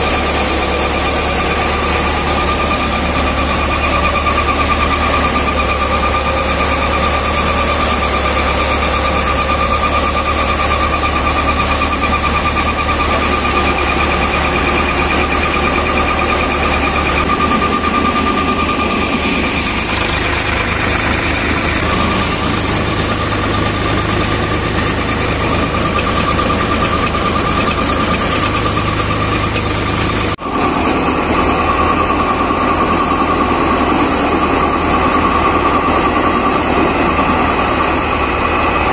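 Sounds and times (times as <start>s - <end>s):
thresher high-pitched tone: 0.0s - 38.9s
tractor engine: 0.0s - 38.9s.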